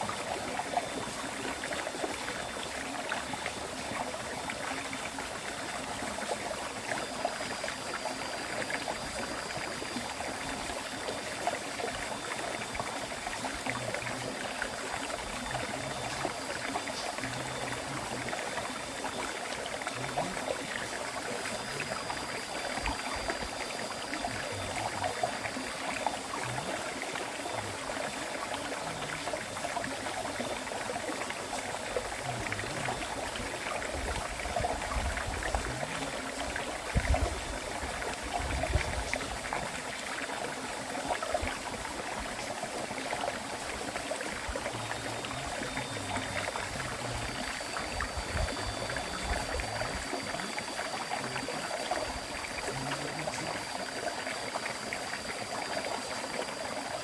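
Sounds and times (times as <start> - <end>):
low water surges: 0.0 - 57.0.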